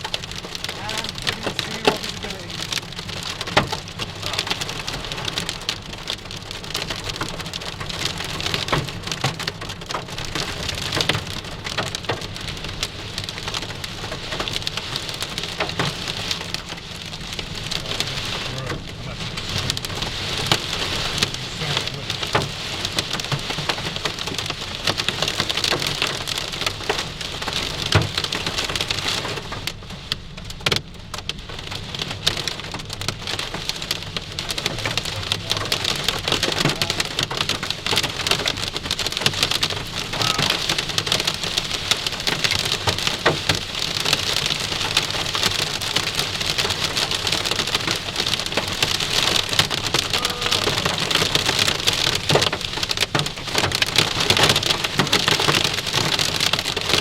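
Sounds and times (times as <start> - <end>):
hail and rain on car roof: 0.0 - 57.0.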